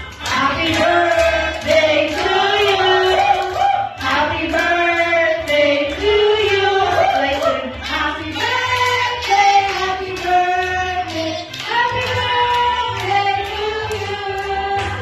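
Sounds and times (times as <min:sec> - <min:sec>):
background music: 0:00.0 - 0:15.0
voices singing: 0:00.2 - 0:15.0.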